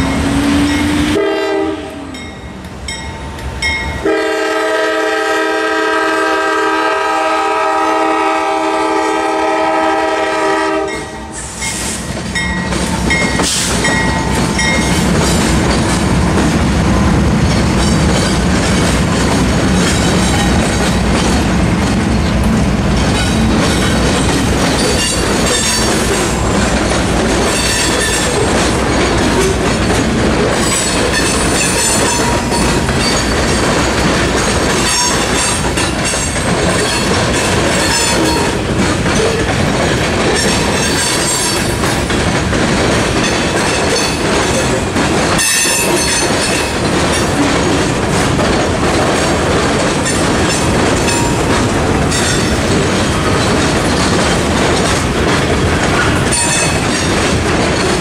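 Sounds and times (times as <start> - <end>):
crossing warning bells ringing: 0.0 - 42.1, 43.1 - 58.0
diesel locomotive passing: 0.0 - 58.0
freight train passing: 0.0 - 58.0.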